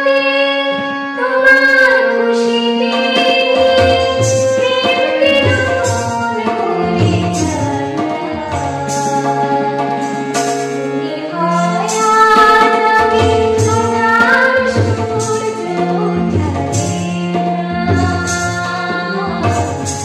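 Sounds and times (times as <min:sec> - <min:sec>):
harmonium: 0:00.0 - 0:20.0
woman singing: 0:00.0 - 0:20.0
tabla rhythm: 0:00.1 - 0:20.0.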